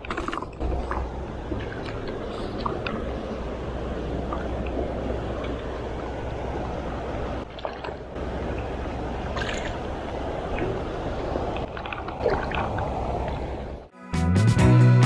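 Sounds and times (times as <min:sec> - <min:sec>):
fish splashing: 0:00.0 - 0:13.9
river flowing over stones: 0:00.0 - 0:13.9.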